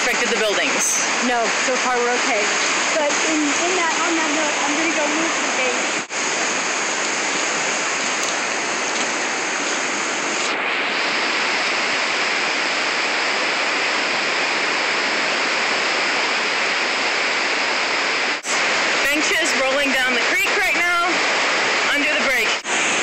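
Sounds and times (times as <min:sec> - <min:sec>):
floodwater rushing over ground: 0:00.0 - 0:23.0.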